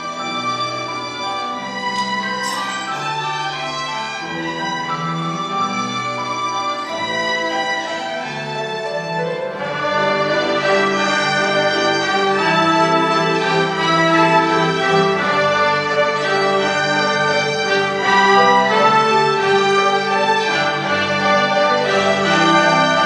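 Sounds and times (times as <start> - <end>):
string ensemble holding notes: 0.0 - 23.0.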